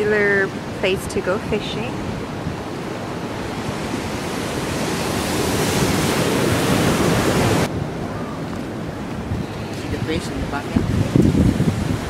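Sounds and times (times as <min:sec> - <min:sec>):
ocean surf: 0:00.0 - 0:12.0
wind on microphone: 0:00.0 - 0:12.0.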